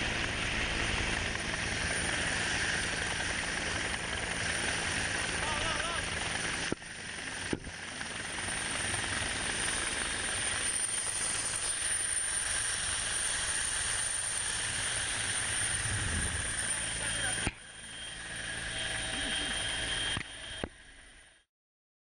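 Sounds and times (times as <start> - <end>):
helicopter rotor and engine: 0.0 - 21.5.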